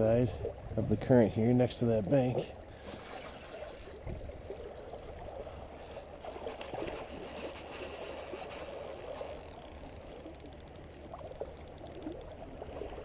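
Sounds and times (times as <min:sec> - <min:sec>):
creek water babbling: 0:00.0 - 0:13.0.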